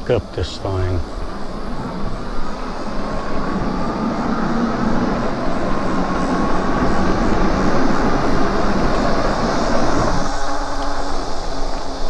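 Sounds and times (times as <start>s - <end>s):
bike riding noise: 0.0s - 12.0s.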